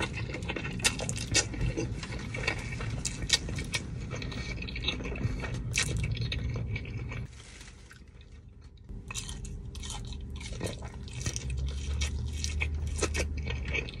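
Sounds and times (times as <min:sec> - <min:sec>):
wet chewing: 0:00.0 - 0:07.3, 0:08.1 - 0:14.0.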